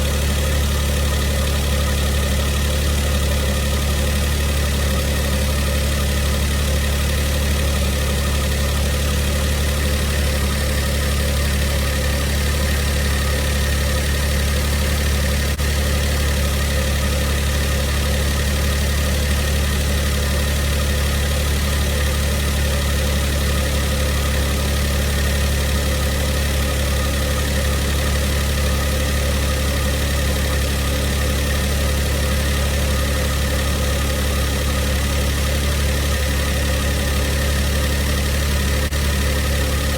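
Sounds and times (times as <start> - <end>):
car engine idling: 0.0 - 39.9
engine rattle: 0.0 - 39.9
whirring inside engine: 0.0 - 39.9.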